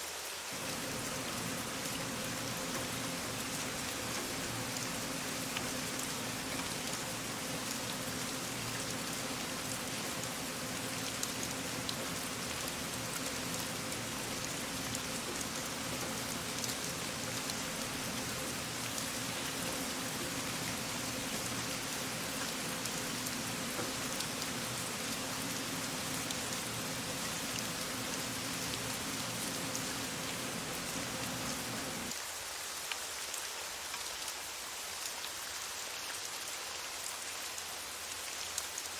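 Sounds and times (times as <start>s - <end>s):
rain pattering: 0.1s - 38.9s
low hum with steady tones: 0.6s - 32.1s.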